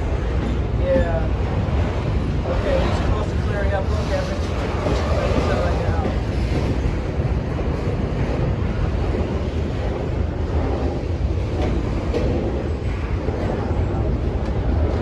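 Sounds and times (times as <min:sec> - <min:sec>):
freight train rumbling past: 0:00.0 - 0:15.0
wind buffeting microphone: 0:00.0 - 0:15.0.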